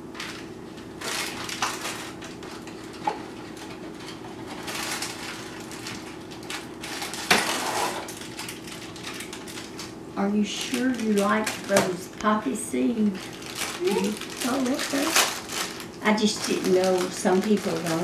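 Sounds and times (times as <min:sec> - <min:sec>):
paper sleeve crinkling: 0:00.1 - 0:12.3, 0:13.0 - 0:18.0.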